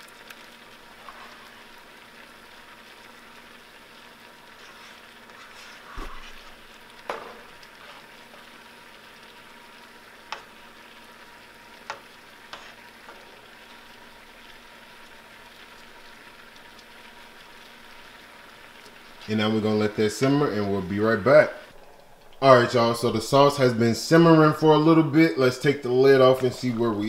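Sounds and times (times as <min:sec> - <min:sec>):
sauce sizzling and bubbling: 0:00.0 - 0:27.0.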